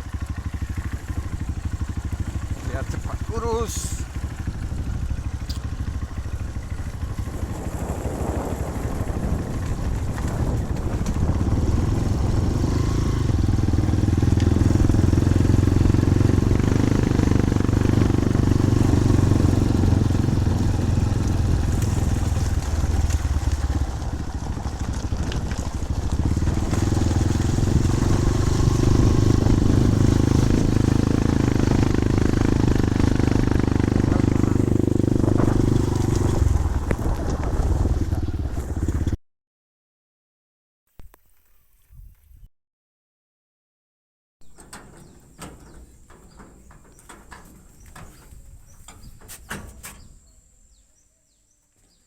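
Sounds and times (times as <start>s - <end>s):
motorcycle engine and road rumble: 0.0s - 39.2s, 44.4s - 52.0s.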